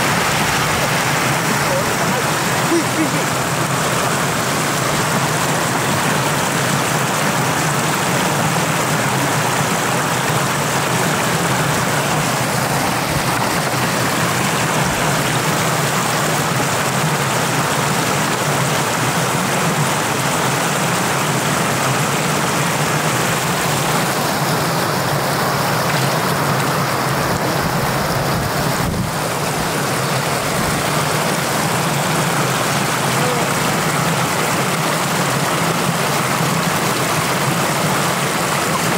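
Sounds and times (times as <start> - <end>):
shallow water rushing: 0.0 - 38.9.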